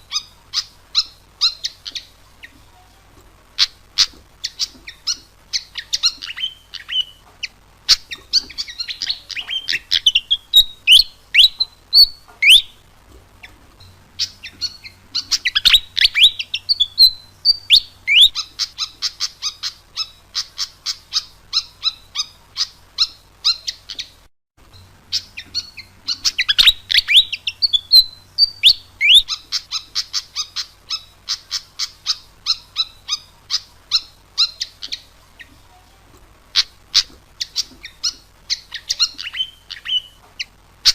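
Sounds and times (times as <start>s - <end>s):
bird chirping and whistling: 0.1s - 2.1s, 3.6s - 12.8s, 14.2s - 24.2s, 25.1s - 35.1s, 36.6s - 40.2s.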